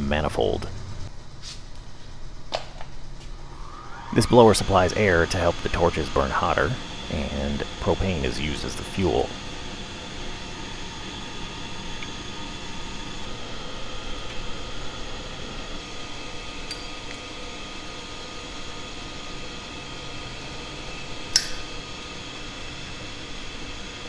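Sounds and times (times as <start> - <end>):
blower whirring: 2.9 - 24.0.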